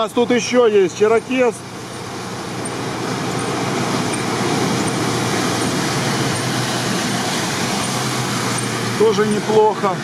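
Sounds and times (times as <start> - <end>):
engine working under load: 0.0 - 10.0
wheels churning mud and water: 0.0 - 10.0.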